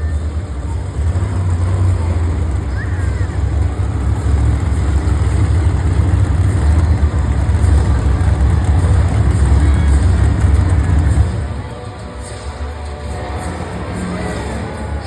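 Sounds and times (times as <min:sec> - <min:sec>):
monster truck engine running hard: 0:00.0 - 0:15.0.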